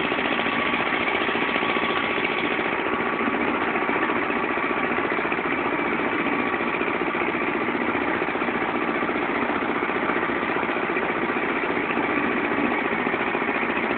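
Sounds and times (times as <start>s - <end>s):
tractor engine rumbling: 0.0s - 13.9s.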